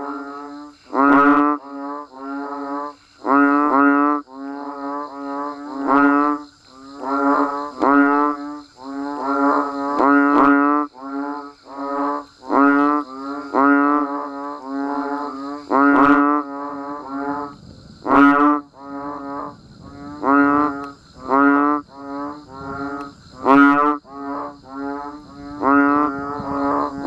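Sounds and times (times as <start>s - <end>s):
frogs calling in chorus: 0.0s - 27.0s.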